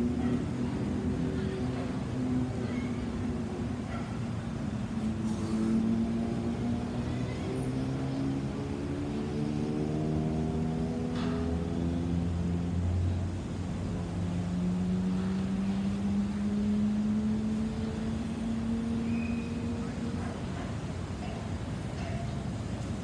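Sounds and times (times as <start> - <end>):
jet engines roaring overhead: 0.0 - 23.0.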